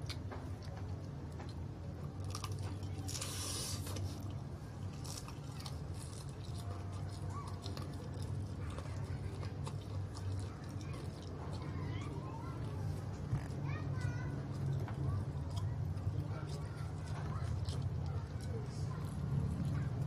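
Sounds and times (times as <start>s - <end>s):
person chewing crispy chicken: 0.0s - 20.0s
steady low hum: 0.0s - 20.0s.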